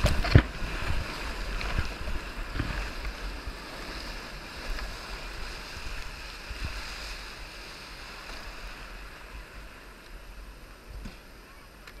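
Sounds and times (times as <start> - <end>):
breaking surf and whitewater: 0.0 - 12.0
wind rumbling on microphone: 0.0 - 12.0.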